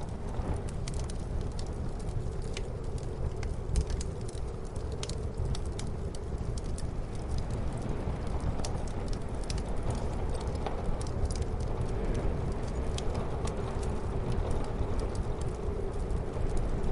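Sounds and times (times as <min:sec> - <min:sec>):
muffled storm wind: 0:00.0 - 0:16.9
wood fire crackling and popping: 0:00.0 - 0:16.9.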